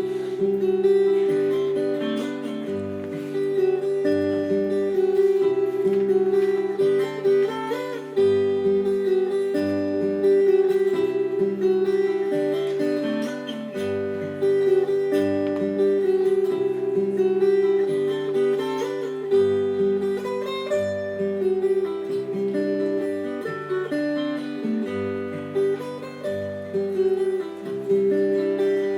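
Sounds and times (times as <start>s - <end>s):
fingerstyle acoustic guitar: 0.0s - 28.9s.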